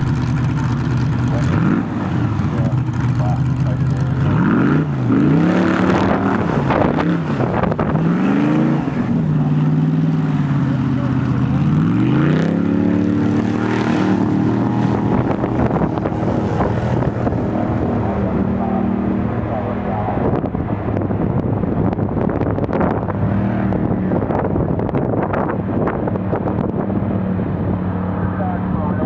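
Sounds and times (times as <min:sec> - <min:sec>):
airboat engine and propeller: 0:00.0 - 0:29.0.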